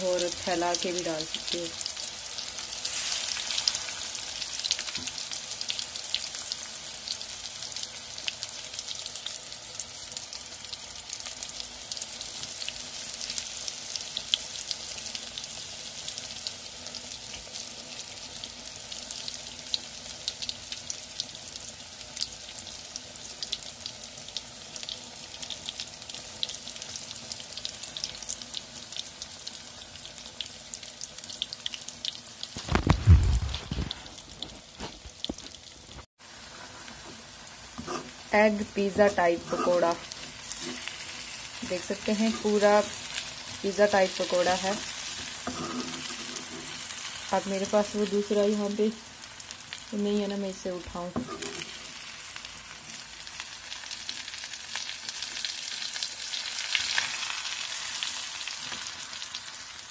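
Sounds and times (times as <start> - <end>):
batter sizzling in hot oil: 0.0 - 59.9.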